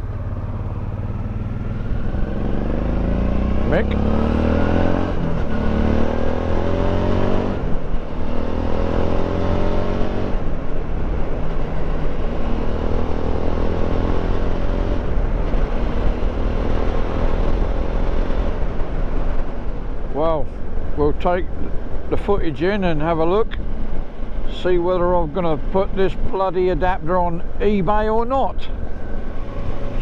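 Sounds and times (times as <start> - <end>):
motorcycle engine accelerating: 0.0 - 20.2, 21.6 - 30.0.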